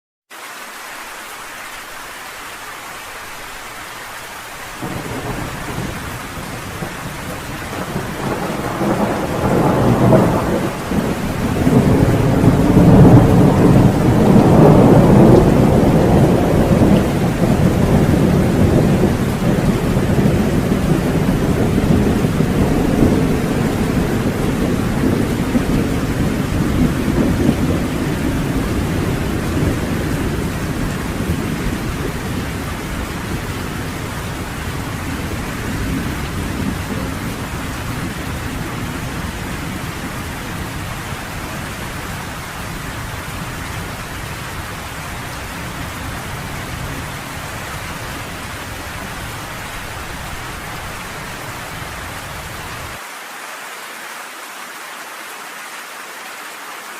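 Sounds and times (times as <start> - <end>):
heavy rain: 0.3 - 56.9
thunder rumbling: 4.8 - 53.0.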